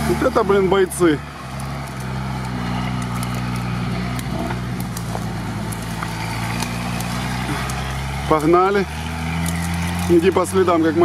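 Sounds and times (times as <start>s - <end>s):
suv engine running at low revs: 0.0s - 11.0s.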